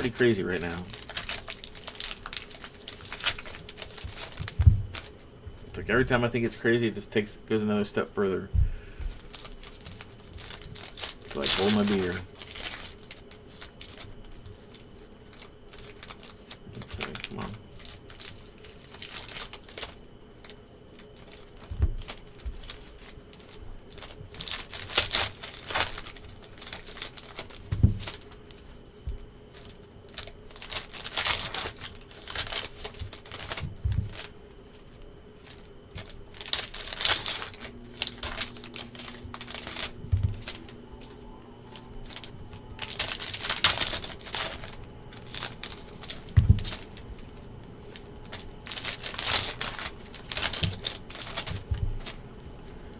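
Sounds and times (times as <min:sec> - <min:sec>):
cards rustling: 0:00.0 - 0:52.9
wrappers crinkling and tearing: 0:00.0 - 0:52.9.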